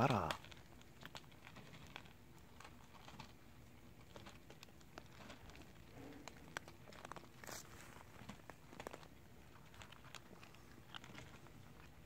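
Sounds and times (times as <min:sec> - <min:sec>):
cats crunching dry kibble: 0:00.0 - 0:12.0.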